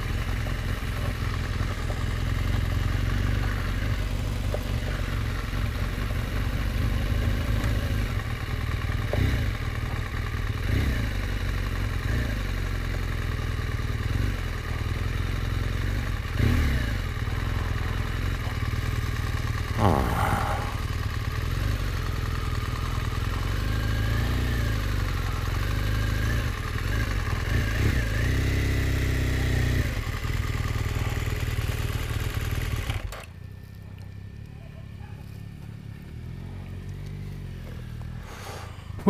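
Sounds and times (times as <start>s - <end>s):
motorcycle engine idling: 0.0s - 39.0s
motorcycle engine running: 0.0s - 39.0s.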